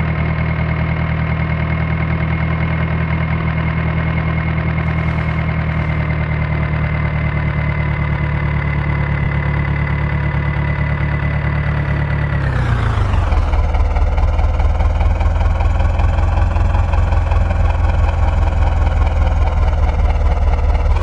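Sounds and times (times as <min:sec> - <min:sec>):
tractor diesel engine running: 0:02.1 - 0:21.0.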